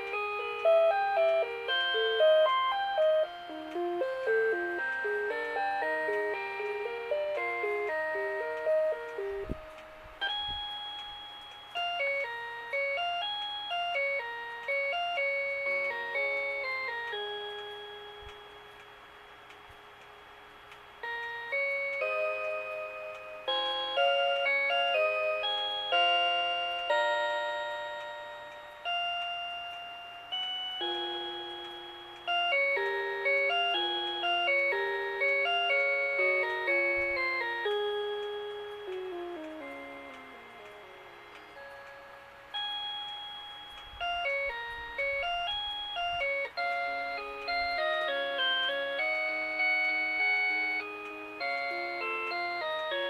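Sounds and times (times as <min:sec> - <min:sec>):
alarm clock melody: 0:00.0 - 0:53.0.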